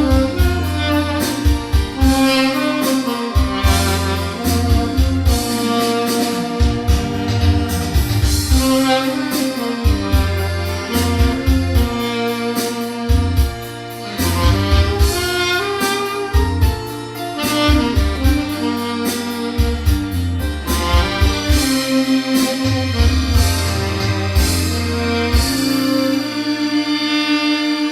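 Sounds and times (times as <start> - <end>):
steady drum beat: 0.0 - 26.4
bass: 0.0 - 27.9
keyboard: 0.0 - 27.9
tenor saxophone melody: 0.0 - 27.9.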